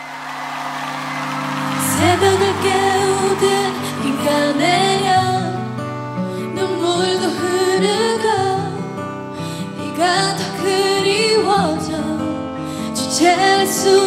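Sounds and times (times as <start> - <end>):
woman singing: 1.8 - 14.0.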